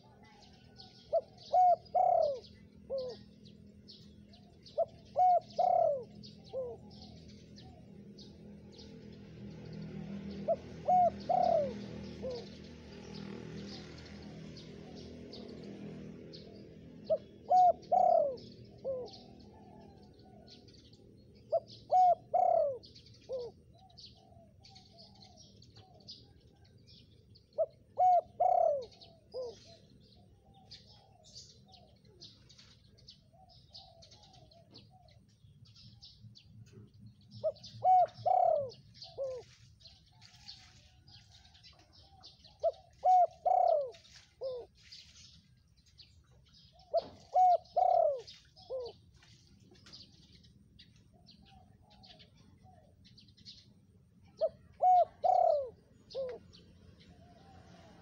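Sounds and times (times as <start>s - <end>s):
dove cooing: 0.0s - 8.3s, 10.0s - 20.8s, 21.4s - 26.7s, 27.5s - 32.3s, 33.1s - 35.9s, 36.6s - 44.9s, 46.4s - 49.0s, 51.2s - 53.6s, 54.2s - 58.0s
small birds chirping: 0.0s - 58.0s.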